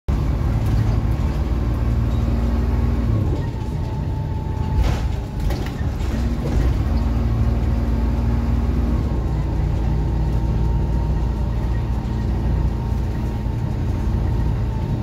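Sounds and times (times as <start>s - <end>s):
bus diesel engine hum: 0.0s - 15.0s.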